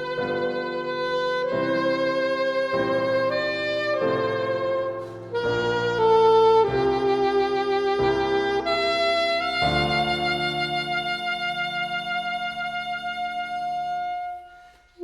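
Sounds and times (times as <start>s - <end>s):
piano accompaniment: 0.0s - 15.0s
saxophone melody: 0.0s - 15.0s.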